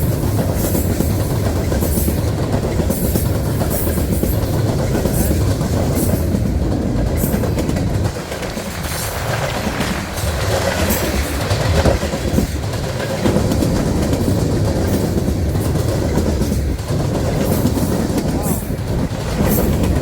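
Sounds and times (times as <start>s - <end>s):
freight train rumbling past: 0.0s - 20.0s
wheels clicking over rail joints: 0.0s - 20.0s.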